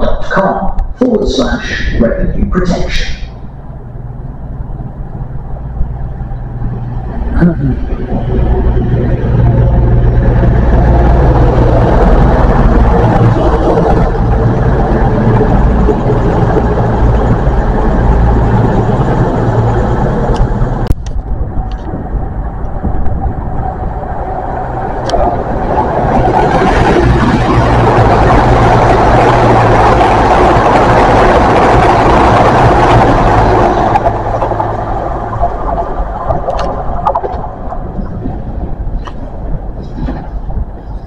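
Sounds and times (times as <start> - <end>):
diesel train engine drone: 0.0 - 41.0
wheel and rail noise: 0.0 - 41.0.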